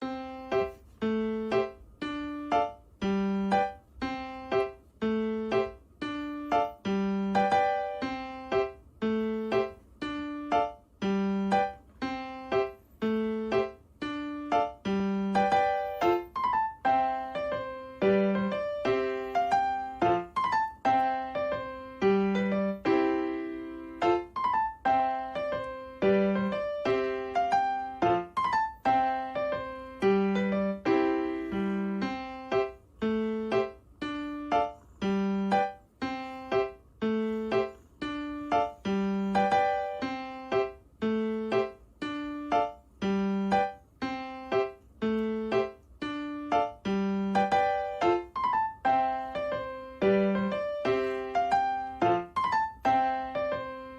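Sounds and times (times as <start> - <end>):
electric piano tune: 0.0 - 53.9.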